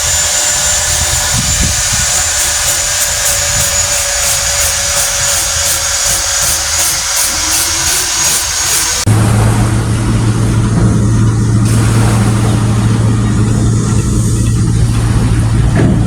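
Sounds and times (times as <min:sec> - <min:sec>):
engine drone: 0:00.0 - 0:16.0
hissy rhythmic rasping: 0:00.0 - 0:16.0
thin high whine: 0:00.0 - 0:16.0.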